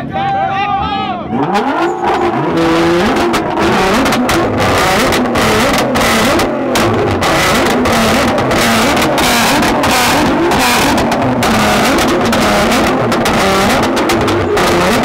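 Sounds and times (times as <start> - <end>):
car exhaust revving: 1.3 - 15.0.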